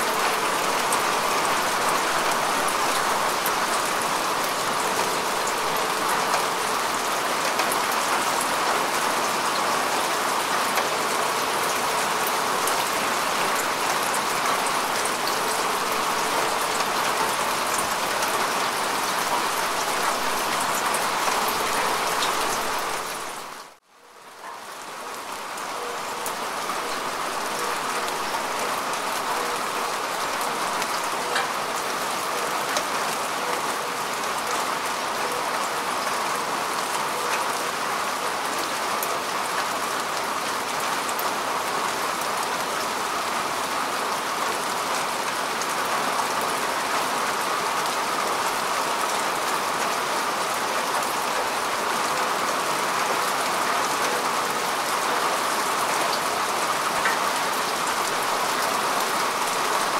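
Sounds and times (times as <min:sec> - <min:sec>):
rain falling on grass: 0:00.0 - 0:59.9.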